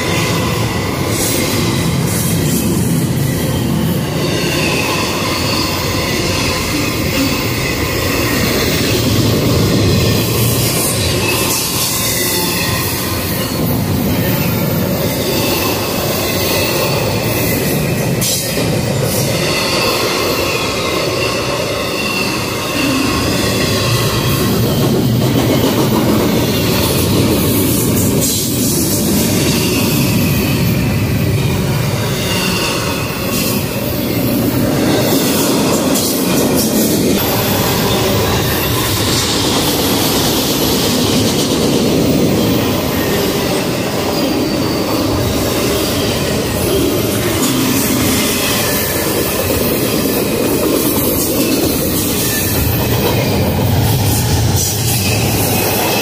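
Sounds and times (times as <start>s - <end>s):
high wheel squeal: 0.0s - 25.2s, 26.4s - 41.2s, 41.9s - 56.0s
train wheels rattling on rails: 0.0s - 56.0s.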